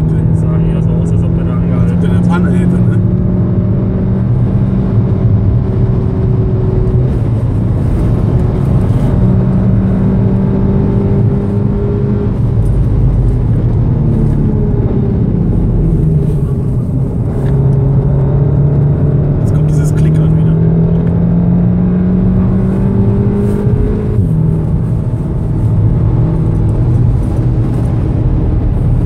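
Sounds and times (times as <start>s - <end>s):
car engine accelerating: 0.0s - 29.0s
road noise inside car: 0.0s - 29.0s.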